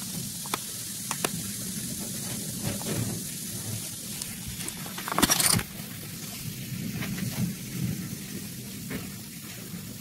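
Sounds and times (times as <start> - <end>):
gas bubbles fizzing: 0.0 - 10.0.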